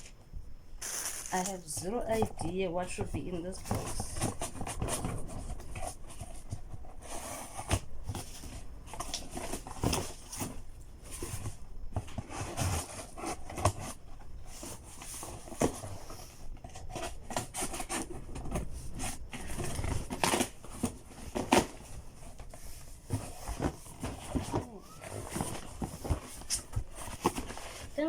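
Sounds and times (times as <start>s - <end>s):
cardboard box being opened: 3.6s - 28.0s.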